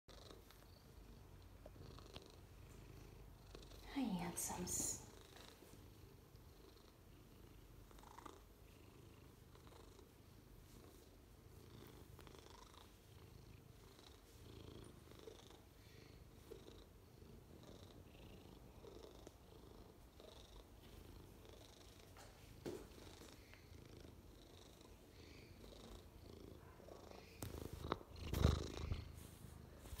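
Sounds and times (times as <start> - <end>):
cat purring: 0.1 - 30.0.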